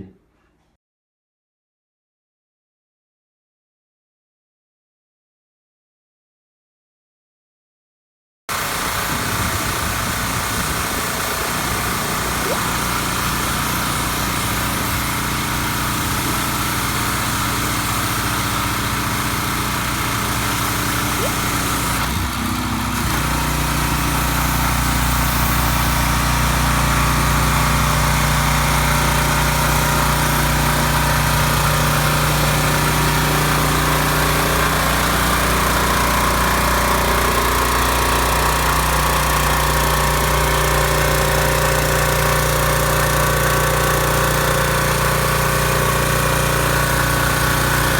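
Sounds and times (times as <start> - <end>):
pressure washer engine running: 8.5 - 47.9.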